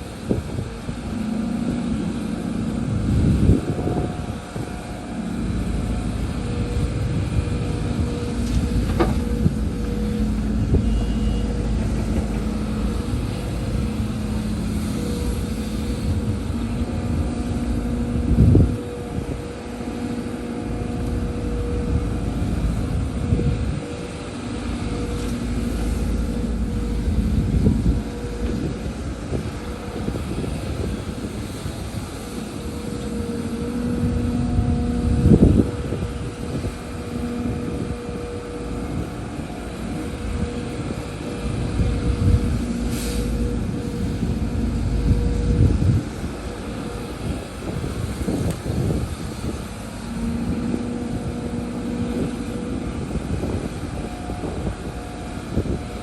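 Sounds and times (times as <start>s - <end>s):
excavator diesel engine under load: 0.0s - 56.0s
thin steady whine: 0.0s - 56.0s.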